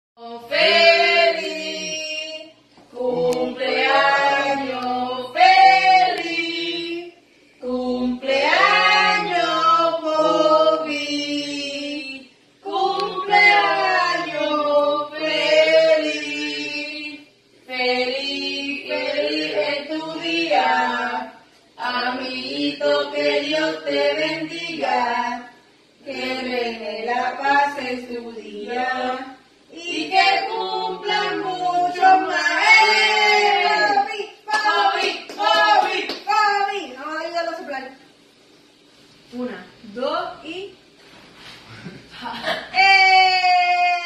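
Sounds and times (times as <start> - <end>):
people singing unaccompanied: 0.2 - 36.2.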